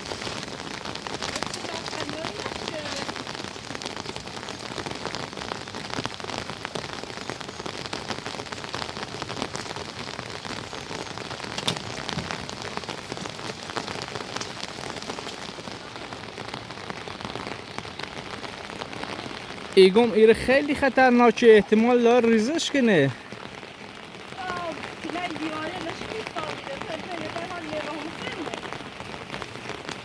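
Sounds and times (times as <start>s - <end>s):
rain drops pattering: 0.0s - 30.0s.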